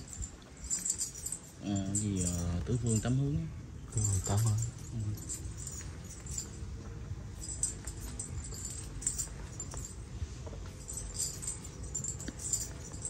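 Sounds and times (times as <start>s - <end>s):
low background rumble: 0.0s - 13.0s
metal bracelets jingling: 0.0s - 13.0s.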